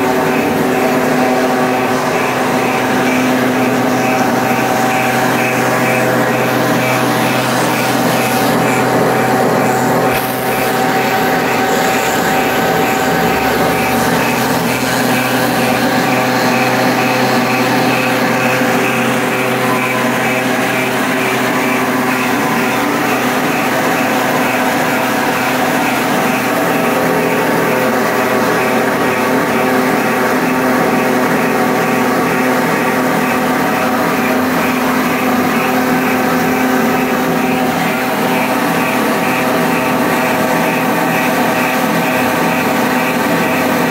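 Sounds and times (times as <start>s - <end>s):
pelletizer machine drone: 0.0s - 43.9s.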